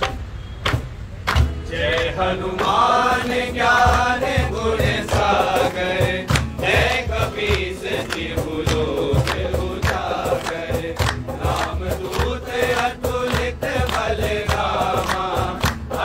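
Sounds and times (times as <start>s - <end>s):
acoustic guitar: 0.0s - 16.0s
hand drum beats: 0.0s - 16.0s
men chanting in unison: 1.6s - 16.0s.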